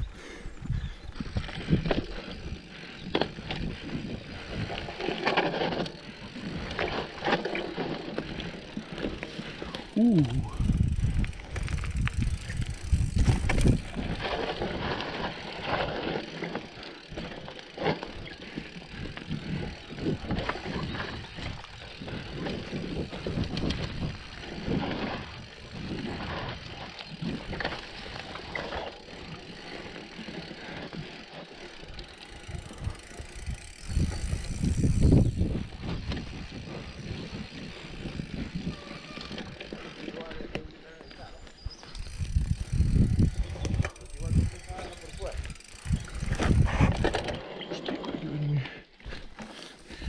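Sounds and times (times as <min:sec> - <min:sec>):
bike tyres on dirt trail: 0:00.0 - 0:50.0
bike knocking and rattling: 0:00.6 - 0:50.0.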